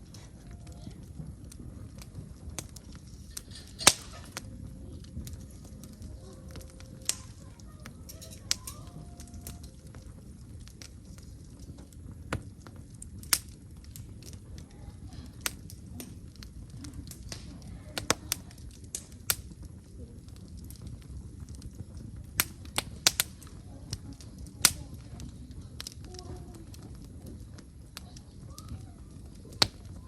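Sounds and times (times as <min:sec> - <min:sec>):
firewood crackling and popping: 0:00.0 - 0:30.0.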